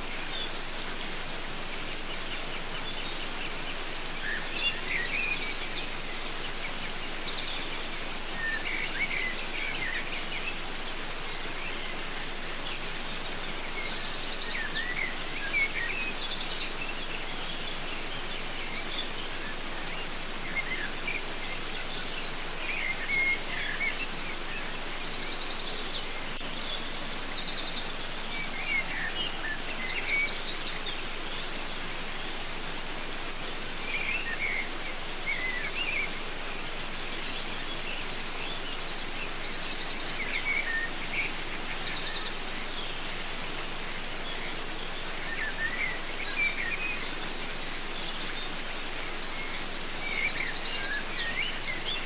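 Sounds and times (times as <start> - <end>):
songbirds chirping and trilling: 0.0 - 52.0
waterfall rushing: 0.0 - 52.0.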